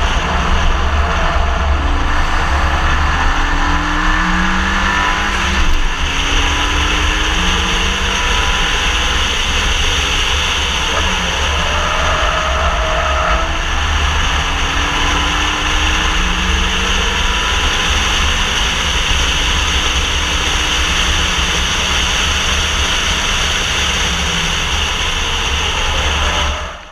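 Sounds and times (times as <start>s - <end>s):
faint car engine: 0.0s - 26.9s
wind buffeting and road rumble: 0.0s - 26.9s.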